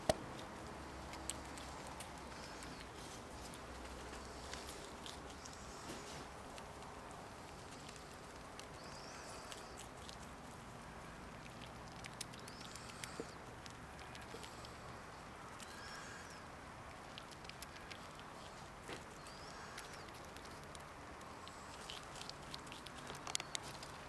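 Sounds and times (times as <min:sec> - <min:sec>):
squirrel gnawing corn: 0:00.0 - 0:24.0.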